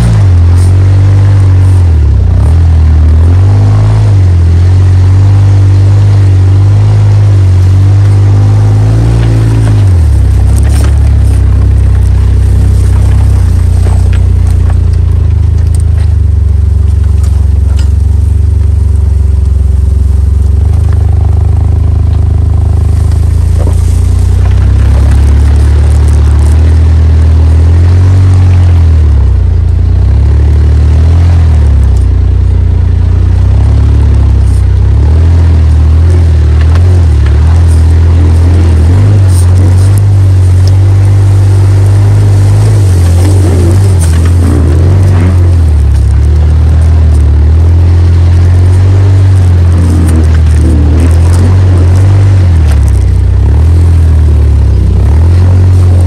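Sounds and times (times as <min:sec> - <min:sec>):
car engine driving off-road: 0:00.0 - 0:56.0.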